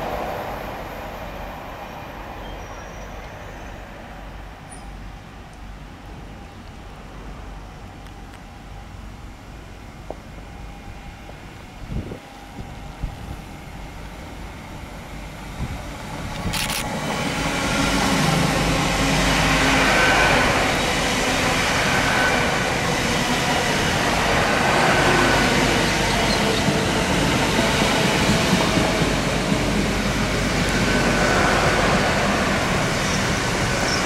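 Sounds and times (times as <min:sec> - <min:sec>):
train rushing past: 0:00.0 - 0:34.0.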